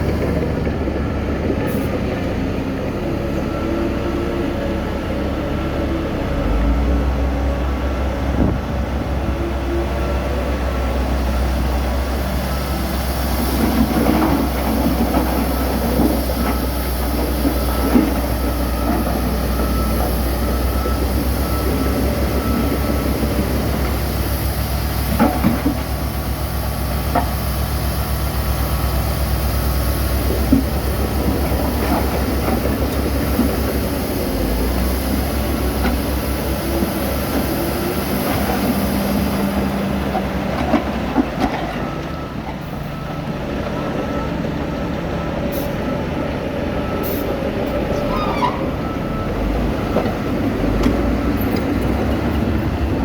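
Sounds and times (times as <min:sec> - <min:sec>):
diesel machinery rumbling: 0:00.0 - 0:53.0.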